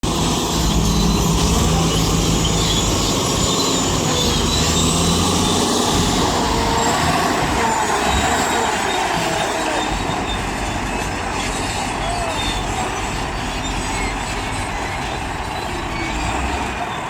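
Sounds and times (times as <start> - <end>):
heavy diesel engine running: 0.0 - 17.0
high metallic squealing: 0.3 - 17.0.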